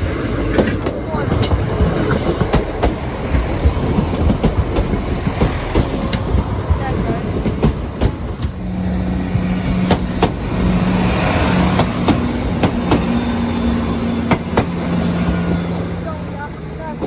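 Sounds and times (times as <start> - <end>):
train wheels clacking over rail joints: 0.0 - 17.0.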